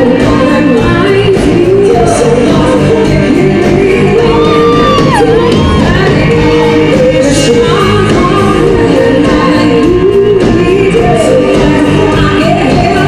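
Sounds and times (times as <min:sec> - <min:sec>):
drum kit beat: 0:00.0 - 0:13.0
lead singer singing: 0:00.0 - 0:13.0
live band music: 0:00.0 - 0:13.0.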